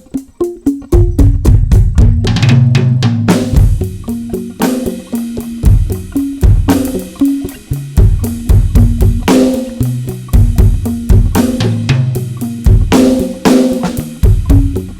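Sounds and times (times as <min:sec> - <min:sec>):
electronic drum kit groove: 0:00.0 - 0:14.9
pitched tom notes: 0:00.0 - 0:14.9.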